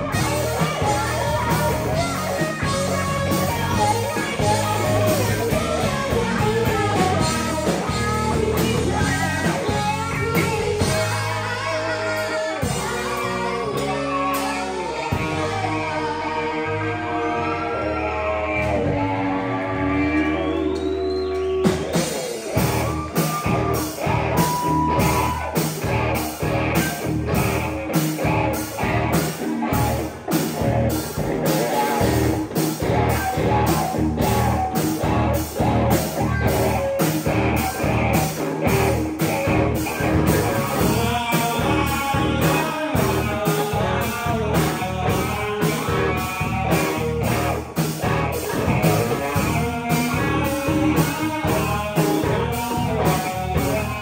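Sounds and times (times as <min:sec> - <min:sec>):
drums keeping steady beat: 0:00.0 - 0:15.8, 0:20.8 - 0:54.0
bass guitar: 0:00.0 - 0:54.0
electric guitars: 0:00.0 - 0:54.0.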